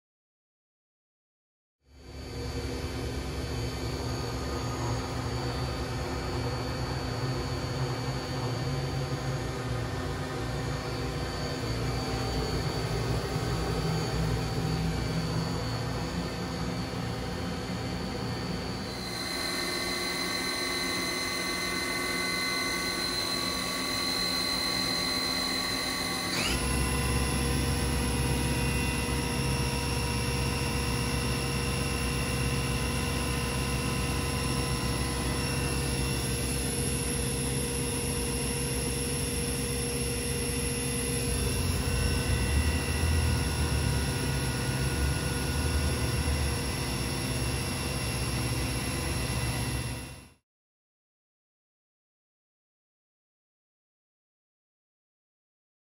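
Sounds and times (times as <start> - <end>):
milling machine spindle whine: 2.0 - 50.4.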